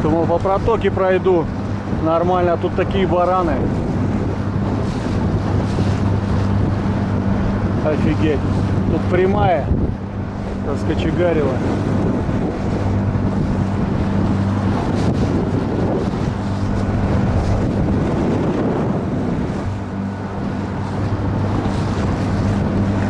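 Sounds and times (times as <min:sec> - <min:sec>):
boat motor humming: 0:00.0 - 0:23.0
choppy water wash: 0:00.0 - 0:23.0
wind buffeting microphone: 0:00.0 - 0:23.0.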